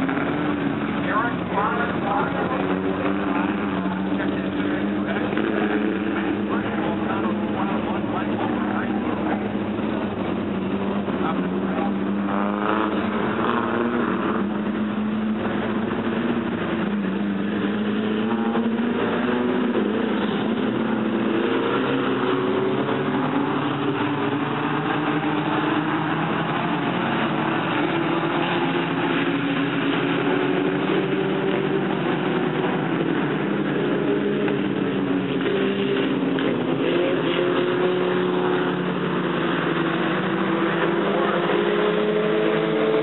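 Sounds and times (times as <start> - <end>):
race car engines: 0.0 - 43.0.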